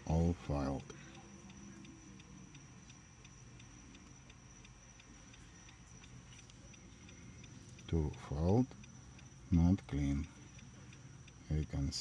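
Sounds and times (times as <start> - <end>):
faint high-pitched whine: 0.0 - 12.0
hazard flasher ticking: 0.0 - 12.0.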